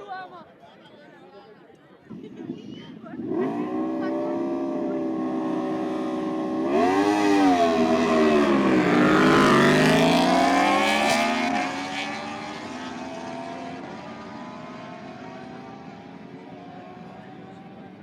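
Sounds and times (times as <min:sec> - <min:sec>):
motorcycle engine revving: 0:02.1 - 0:18.0.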